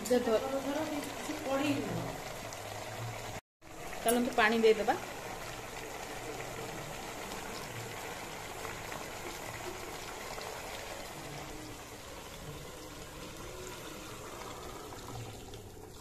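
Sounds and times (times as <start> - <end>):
food sizzling in a pot: 0.0 - 16.0
water pouring into pot: 0.0 - 16.0.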